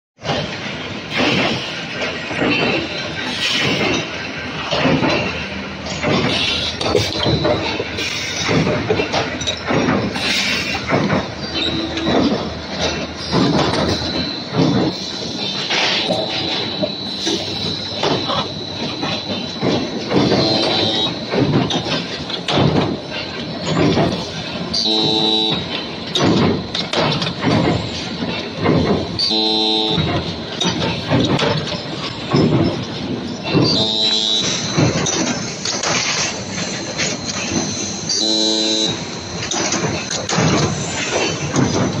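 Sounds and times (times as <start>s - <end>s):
machine high-pitched whine: 0.3s - 42.0s.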